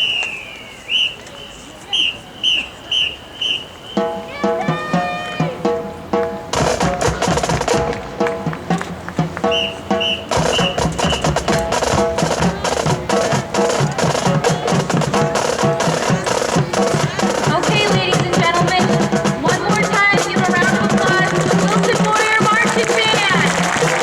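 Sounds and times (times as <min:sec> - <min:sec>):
drumline percussion: 0:03.7 - 0:24.0
brass chords: 0:04.0 - 0:24.0.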